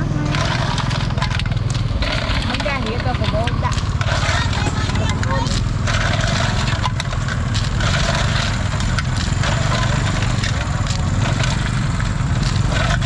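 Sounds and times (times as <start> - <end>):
steady low rumble: 0.0 - 13.0
snail shells clicking together: 0.3 - 13.0.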